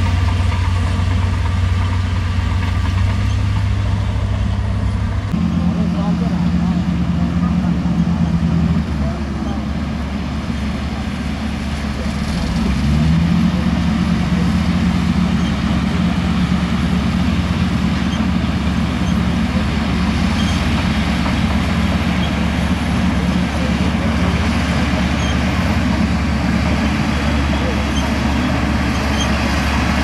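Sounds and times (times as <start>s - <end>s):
bulldozer diesel engine under load: 0.0s - 30.0s.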